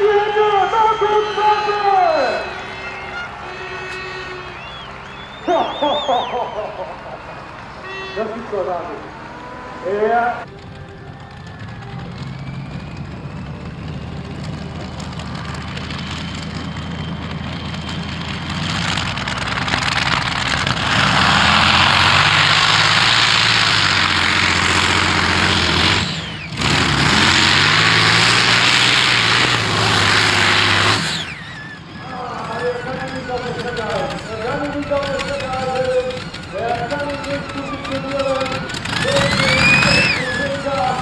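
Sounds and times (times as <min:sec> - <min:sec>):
tractor engine with rising whine: 0:00.0 - 0:41.0.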